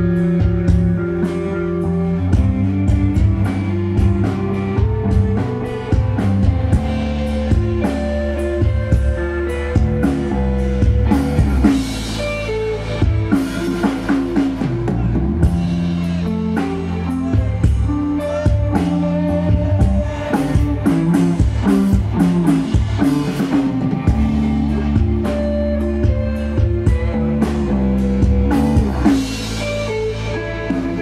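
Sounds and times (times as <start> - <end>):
bass guitar: 0.0 - 31.0
drum kit: 0.0 - 31.0
electric guitar: 0.0 - 31.0.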